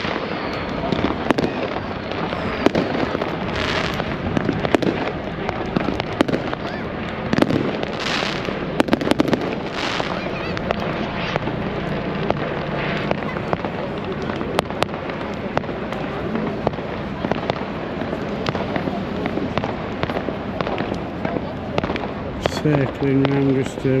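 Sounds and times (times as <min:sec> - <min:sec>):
hissing firework bursts: 0:00.0 - 0:23.6
fireworks bangs and crackles: 0:00.0 - 0:24.0.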